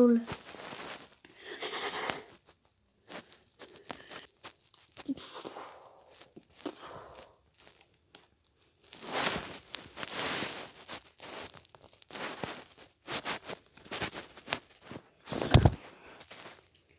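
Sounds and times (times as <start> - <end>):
crinkling and rustling: 0.0 - 16.9.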